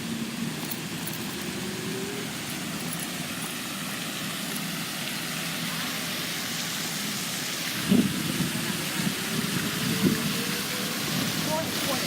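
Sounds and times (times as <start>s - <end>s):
road noise: 0.0s - 12.0s
vehicle running noise: 0.0s - 12.0s
wind: 0.0s - 12.0s.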